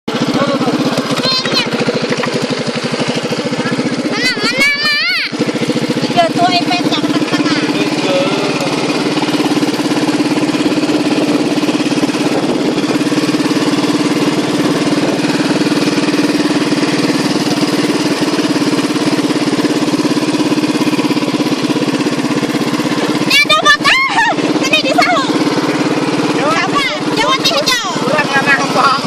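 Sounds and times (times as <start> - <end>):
small engine humming steadily: 0.1 - 29.0.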